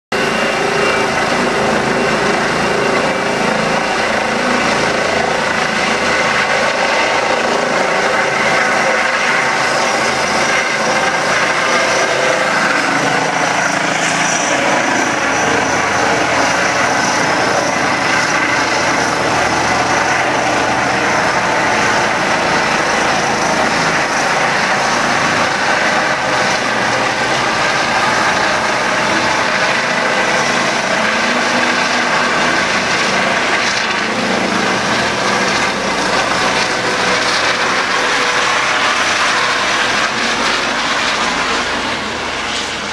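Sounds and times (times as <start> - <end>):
helicopter rotor noise: 0.1 - 42.9
helicopter turbine whine: 0.1 - 42.9.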